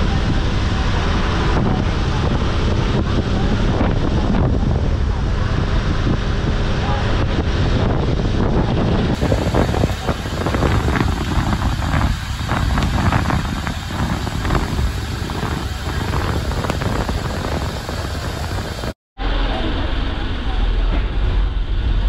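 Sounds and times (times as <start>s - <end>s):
ferry engine: 0.0s - 22.0s
wake churning along hull: 0.0s - 22.0s
wind buffeting microphone: 0.0s - 22.0s.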